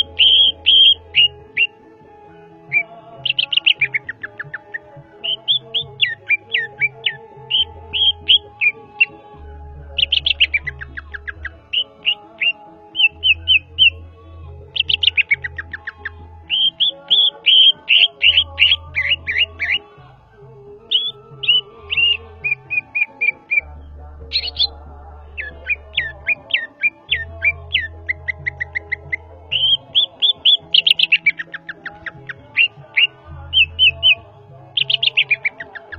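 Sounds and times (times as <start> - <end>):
bird singing whistles and trills: 0.0 - 1.9, 2.7 - 19.9, 20.9 - 24.8, 25.4 - 35.9
music with pulsing bass: 0.0 - 35.9.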